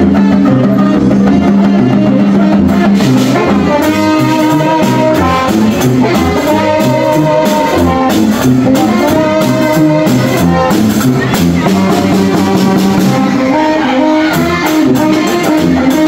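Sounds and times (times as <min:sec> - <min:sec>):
brass band playing: 0:00.0 - 0:16.0
drum beats: 0:00.0 - 0:16.0
sousaphone bass line: 0:00.0 - 0:16.0.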